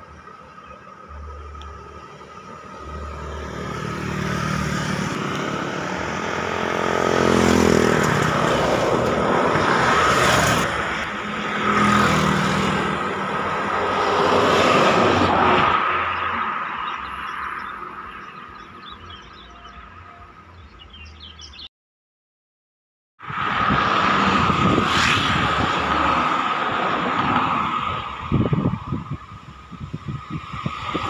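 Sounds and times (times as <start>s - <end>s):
vehicles passing by: 0.0s - 21.7s, 23.2s - 31.0s.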